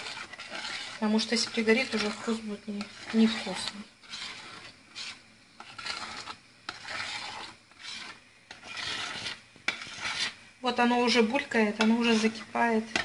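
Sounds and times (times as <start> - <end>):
metal spoon scraping a pot: 0.0 - 13.0.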